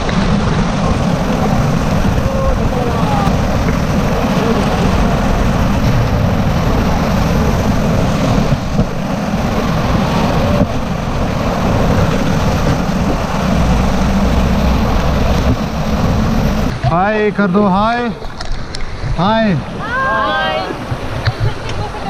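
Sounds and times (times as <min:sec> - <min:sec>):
river water rushing: 0:00.0 - 0:22.0
wind buffeting microphone: 0:00.0 - 0:22.0.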